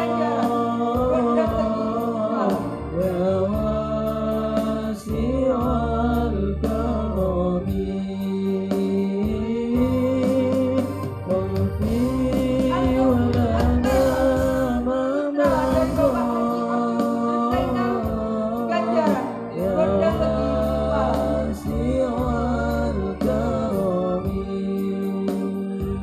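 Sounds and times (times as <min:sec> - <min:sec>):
electronic keyboard accompaniment: 0:00.0 - 0:26.0
young man singing: 0:00.0 - 0:26.0.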